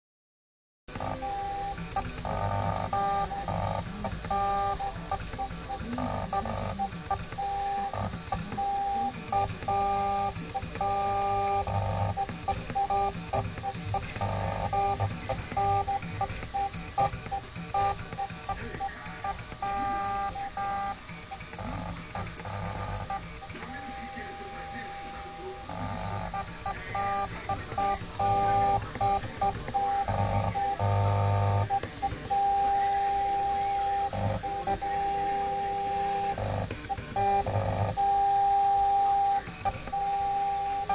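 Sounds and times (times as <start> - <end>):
stepper motors whining: 0.9 - 40.9.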